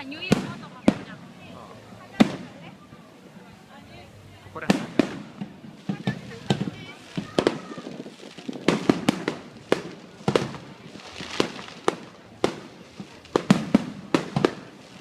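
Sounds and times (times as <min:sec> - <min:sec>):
fireworks bangs and pops: 0:00.0 - 0:03.6, 0:04.5 - 0:15.0.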